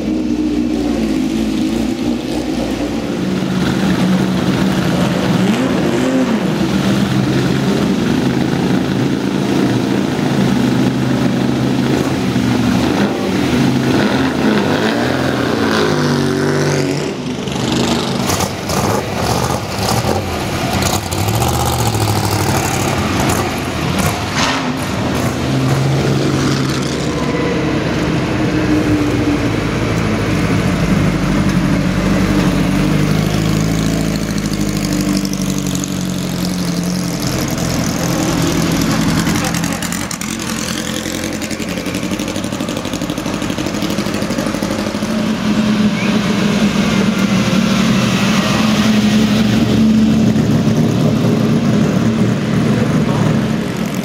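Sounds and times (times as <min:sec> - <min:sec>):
racing engine idling and revving: 0:00.0 - 0:54.0.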